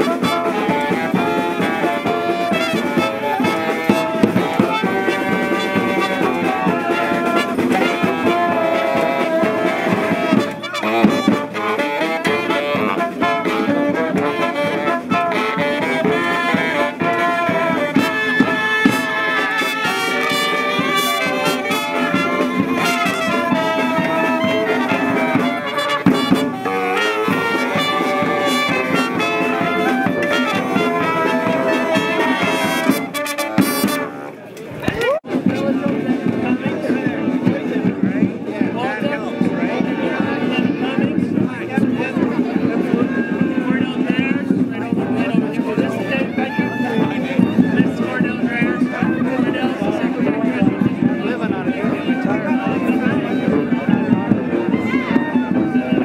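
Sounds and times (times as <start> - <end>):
brass band playing: 0.0 - 56.0
steady drumbeat: 0.0 - 56.0.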